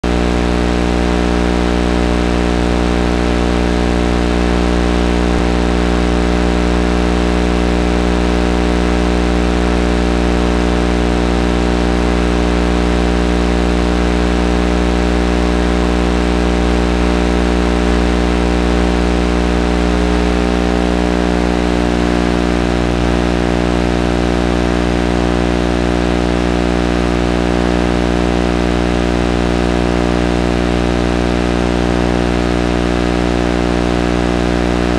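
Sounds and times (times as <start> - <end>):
electrical buzzing hum: 0.0 - 34.9.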